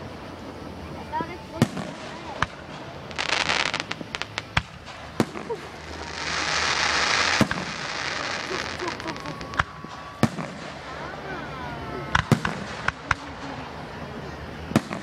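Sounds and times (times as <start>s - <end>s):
fireworks crackling pops: 0.0s - 11.3s, 12.0s - 15.0s
fireworks sharp bangs: 0.0s - 15.0s
long loud hiss: 0.0s - 15.0s.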